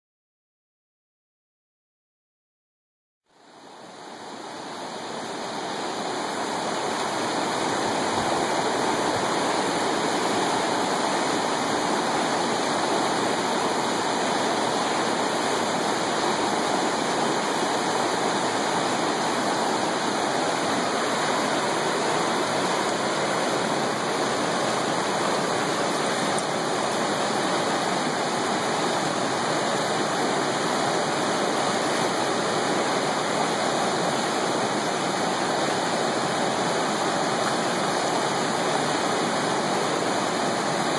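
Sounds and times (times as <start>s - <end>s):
river rapids rushing: 3.3s - 40.9s.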